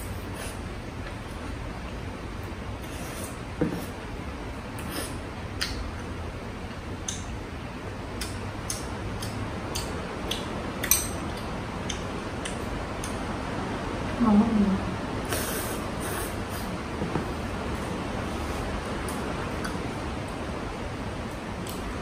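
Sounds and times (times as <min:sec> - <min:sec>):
steady hiss and hum: 0:00.0 - 0:22.0.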